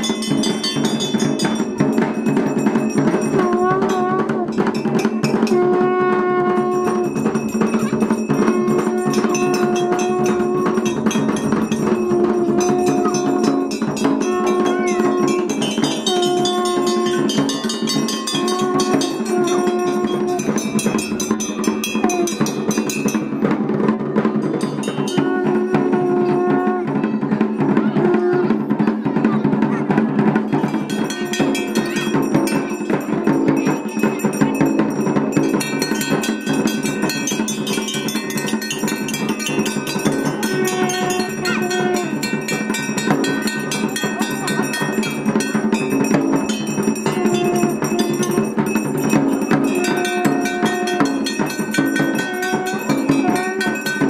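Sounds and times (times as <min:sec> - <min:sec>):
dense percussion: 0:00.0 - 0:54.0
temple bells ringing rapidly: 0:00.0 - 0:54.0.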